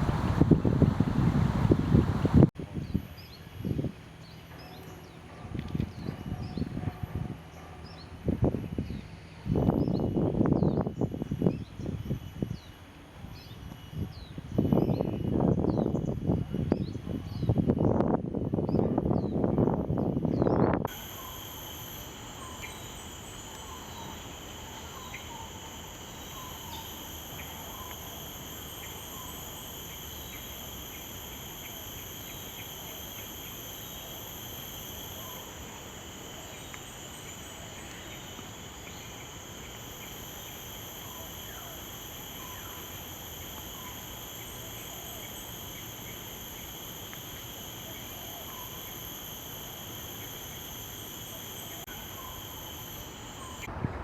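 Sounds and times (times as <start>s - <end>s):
insects droning: 0.0s - 53.8s
faint insect chirps: 5.9s - 53.7s.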